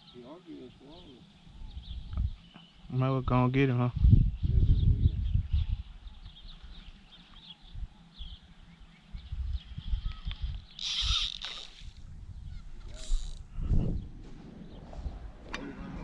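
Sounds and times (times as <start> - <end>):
wind rumble on microphone: 1.5 - 2.5, 3.2 - 7.0, 7.6 - 16.0.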